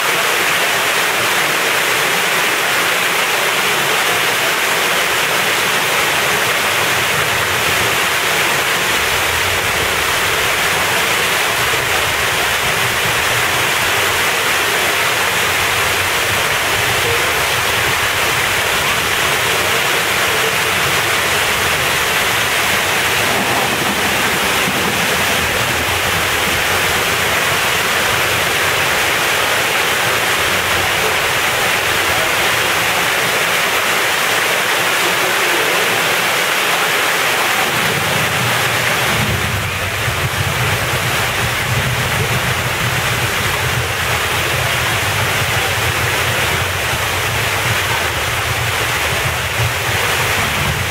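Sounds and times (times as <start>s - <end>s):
water splashing into pond: 0.0s - 50.9s.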